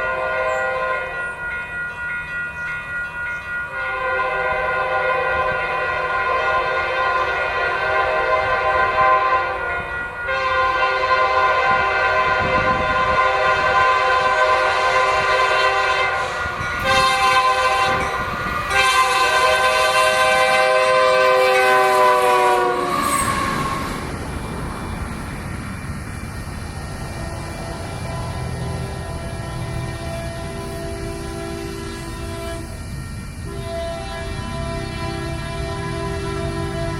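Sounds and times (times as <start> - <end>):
locomotive air horn blasts: 0.0 - 1.2, 3.7 - 24.0, 27.1 - 36.9
passing train rumble: 0.0 - 36.9.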